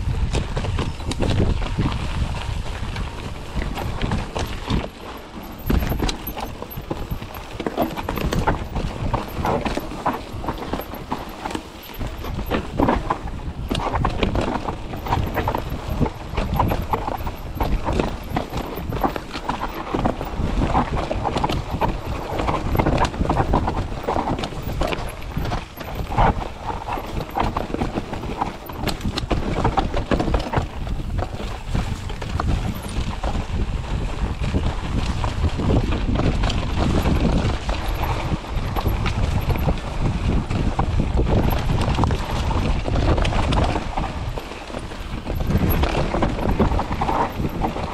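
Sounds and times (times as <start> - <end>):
bike chain and frame rattling: 0.0 - 47.9
tyres clattering on rocky trail: 0.0 - 47.9.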